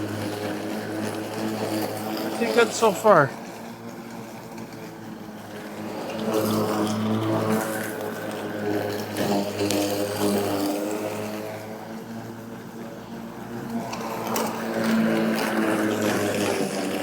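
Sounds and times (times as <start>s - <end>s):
electric lawn mower cutting grass: 0.0s - 2.4s, 3.4s - 17.0s.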